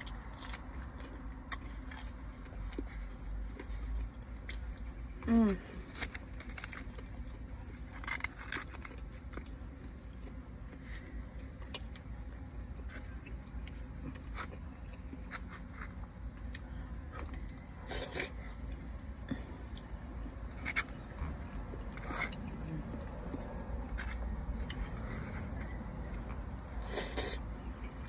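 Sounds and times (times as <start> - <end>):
chewing: 0.0 - 5.2, 5.8 - 28.0.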